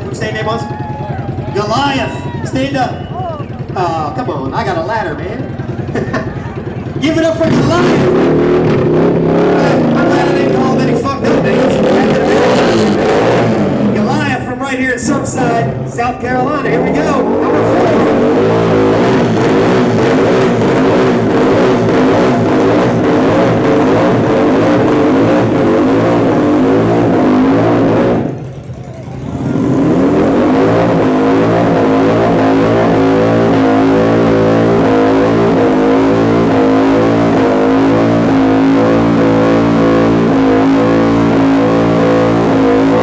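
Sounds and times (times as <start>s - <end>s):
motorcycle engine revving: 1.0s - 43.0s.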